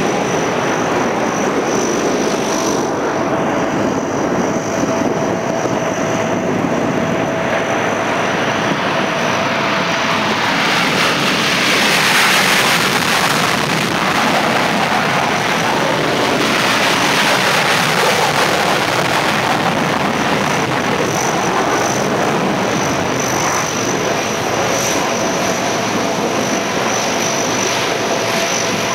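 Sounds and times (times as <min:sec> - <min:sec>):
faint high whine: 0:00.0 - 0:28.9
jets taking off: 0:00.0 - 0:28.9.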